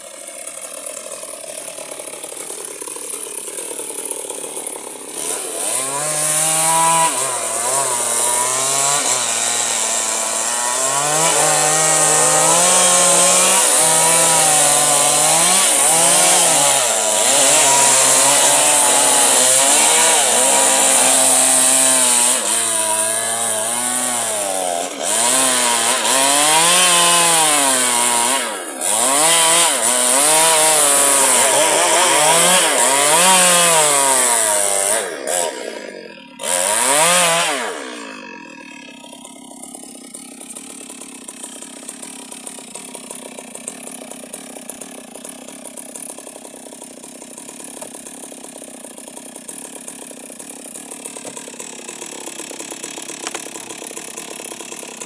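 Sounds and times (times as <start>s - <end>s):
electric chainsaw cutting wood: 0.0s - 55.0s.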